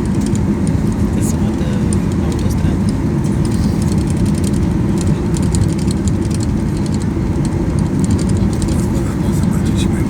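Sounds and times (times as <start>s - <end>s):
light rattling clicks: 0.0s - 8.8s
airliner engine rumble: 0.0s - 10.0s.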